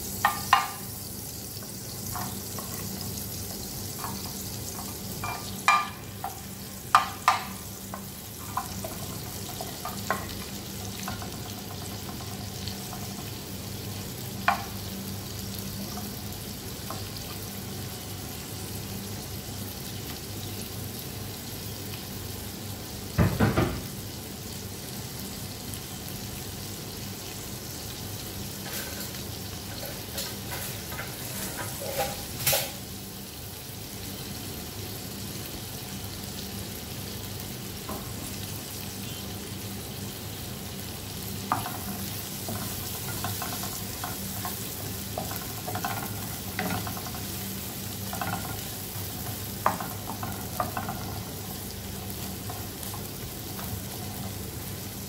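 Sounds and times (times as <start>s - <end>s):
garlic and onion sizzling in oil: 0.0s - 55.0s.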